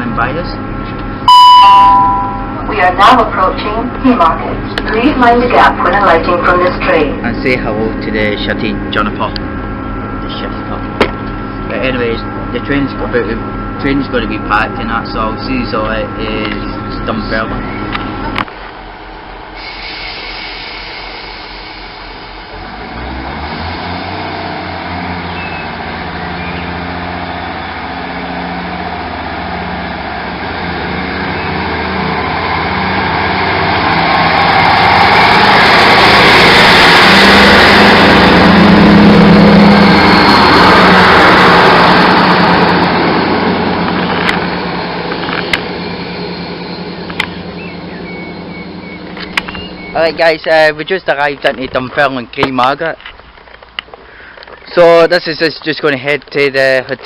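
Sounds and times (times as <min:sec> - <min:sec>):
train diesel engine humming: 0:00.0 - 0:55.8
train running noise: 0:00.0 - 0:57.0.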